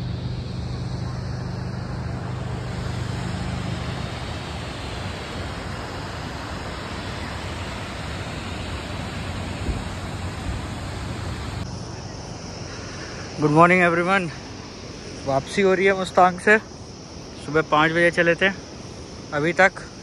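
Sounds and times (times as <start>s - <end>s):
low engine hum: 0.0s - 17.5s
road and tyre noise: 0.0s - 20.0s.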